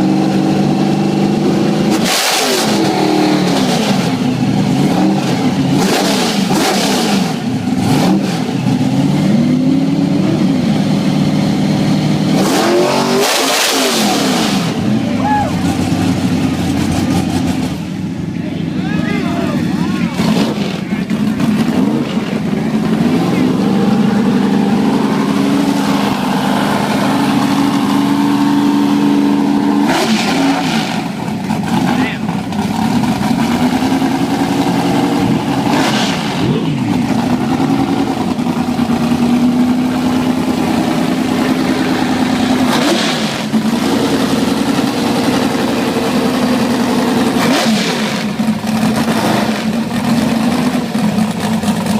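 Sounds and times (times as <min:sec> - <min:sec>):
drag car engine revving: 0:00.0 - 0:51.9.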